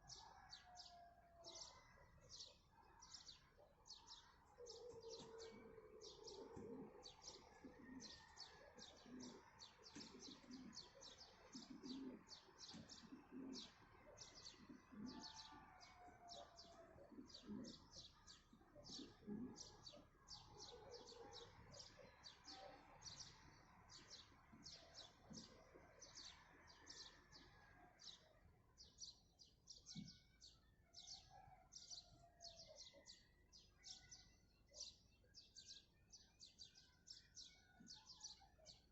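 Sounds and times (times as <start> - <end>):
birdsong chorus: 0.0 - 38.9.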